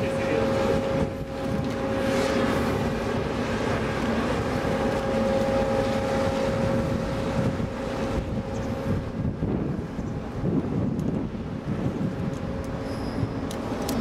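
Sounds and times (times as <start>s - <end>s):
crane machinery drone and whine: 0.0s - 14.0s
wind buffeting microphone: 0.0s - 14.0s.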